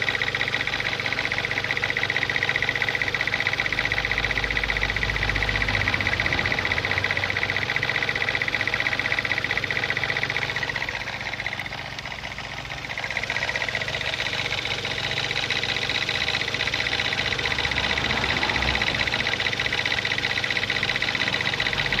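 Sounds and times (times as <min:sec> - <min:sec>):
car engine idling: 0:00.0 - 0:22.0
rapid clickety-clack: 0:00.0 - 0:22.0.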